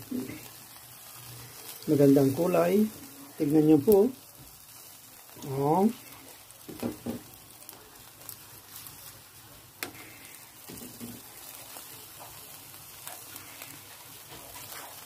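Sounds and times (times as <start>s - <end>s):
chicken sizzling on a grill: 0.0s - 15.0s.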